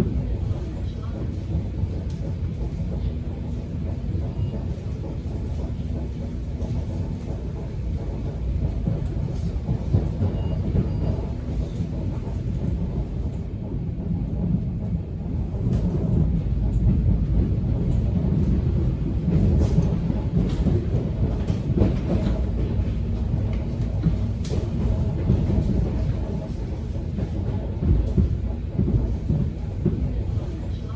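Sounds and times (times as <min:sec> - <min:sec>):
subway train rumbling on rails: 0:00.0 - 0:30.9.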